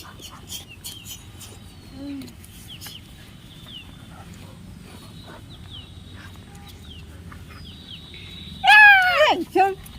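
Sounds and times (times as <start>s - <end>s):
faint bird chirps: 0.2s - 9.2s.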